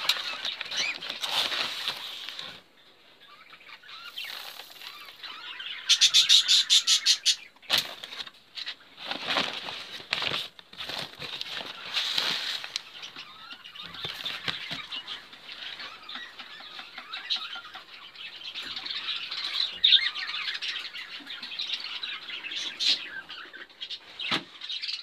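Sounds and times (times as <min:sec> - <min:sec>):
caged birds chirping: 0:00.0 - 0:25.0.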